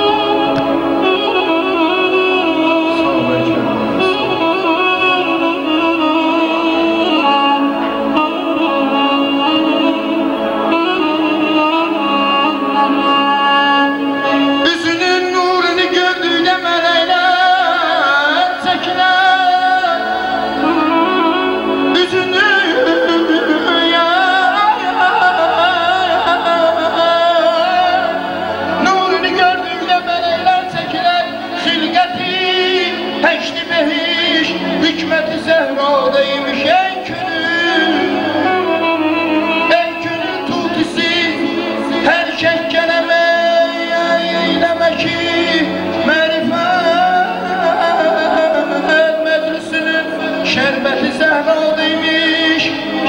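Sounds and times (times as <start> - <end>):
electronic keyboard accompaniment: 0.0 - 53.0
man singing ornamented phrases: 0.0 - 53.0.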